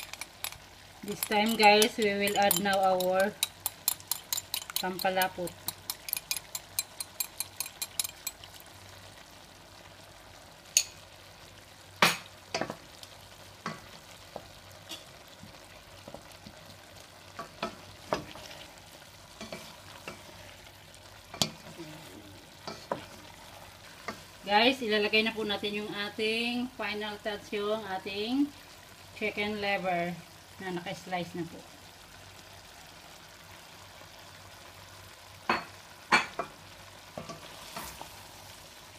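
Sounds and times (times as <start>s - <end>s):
vegetables sizzling in a pan: 0.0s - 38.9s.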